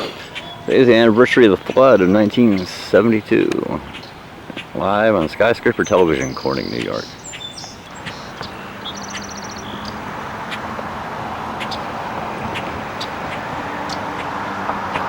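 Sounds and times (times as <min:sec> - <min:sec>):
bird chirps: 0:00.0 - 0:15.0
rapid bird trill: 0:00.0 - 0:15.0
road traffic noise: 0:00.0 - 0:15.0.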